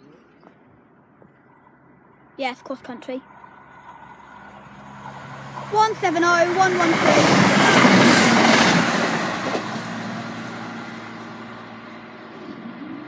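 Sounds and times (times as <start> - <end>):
train passing at speed: 1.4 - 13.0.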